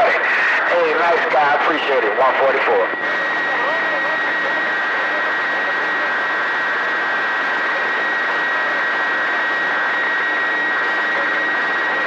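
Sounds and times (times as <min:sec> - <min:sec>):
radio static rush: 0:00.0 - 0:12.0.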